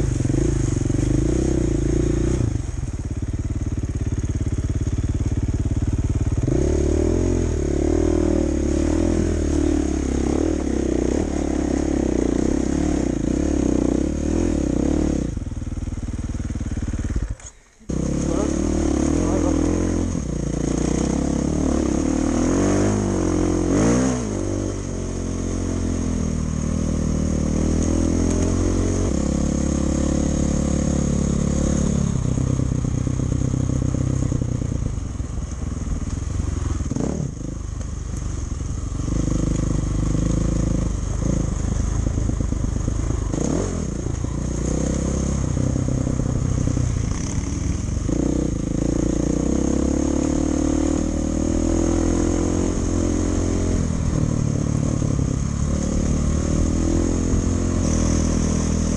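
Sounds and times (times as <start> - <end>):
dirt bike engine running: 0.0 - 58.9.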